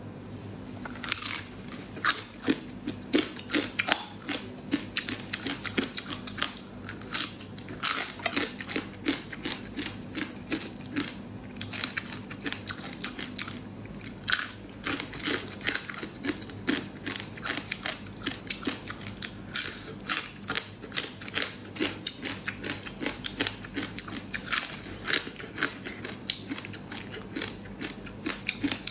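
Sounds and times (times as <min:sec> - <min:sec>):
crunching and chewing: 0:00.8 - 0:28.9.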